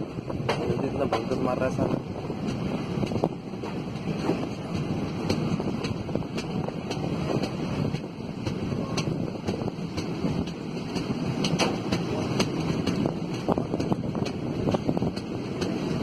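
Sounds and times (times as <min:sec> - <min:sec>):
train wheels rumbling on rails: 0:00.0 - 0:16.0
wind on microphone: 0:00.0 - 0:16.0
sharp clicks and knocks: 0:02.5 - 0:15.9.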